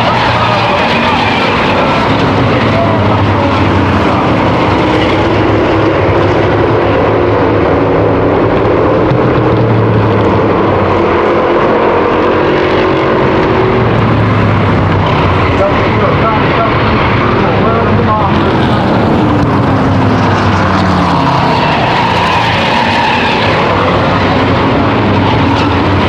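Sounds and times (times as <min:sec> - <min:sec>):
racing engines passing: 0:00.0 - 0:26.0.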